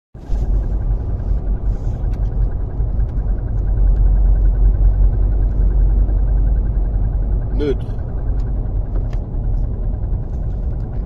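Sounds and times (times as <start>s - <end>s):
low car rumble: 0.2s - 11.0s.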